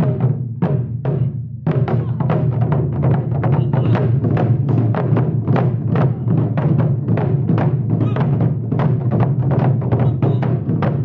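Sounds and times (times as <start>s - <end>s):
taiko drums beaten fast: 0.0s - 11.0s.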